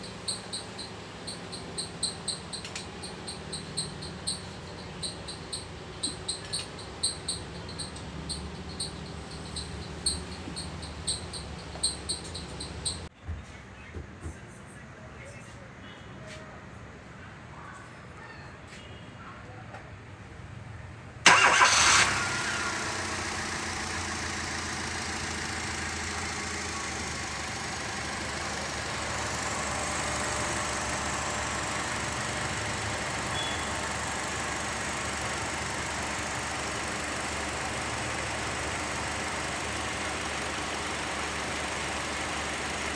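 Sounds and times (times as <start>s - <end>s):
car engine starting and idling: 0.0s - 13.1s, 21.2s - 42.9s.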